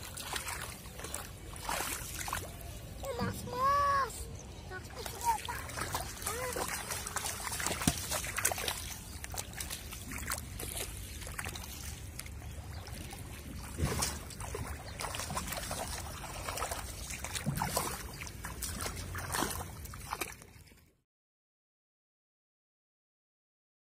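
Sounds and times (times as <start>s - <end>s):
pond water splashing: 0.0s - 21.0s.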